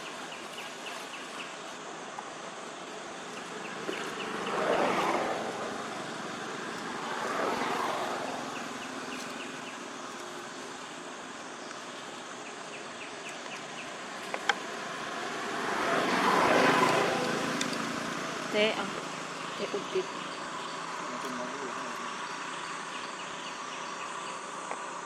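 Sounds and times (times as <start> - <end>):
steady outdoor hum: 0.0 - 25.0
passing vehicles rushing: 2.0 - 24.2.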